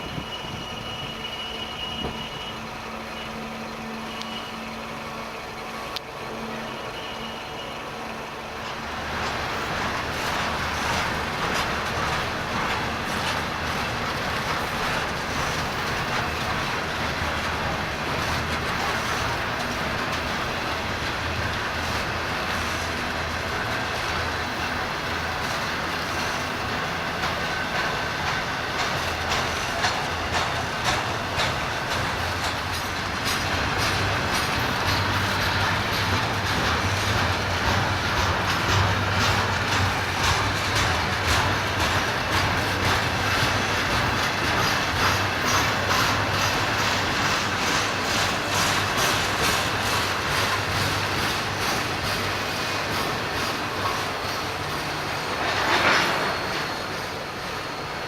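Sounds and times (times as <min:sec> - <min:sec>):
freight train wheels rumbling: 0:00.0 - 0:58.0
wheel clicks over rail joints: 0:08.6 - 0:57.3.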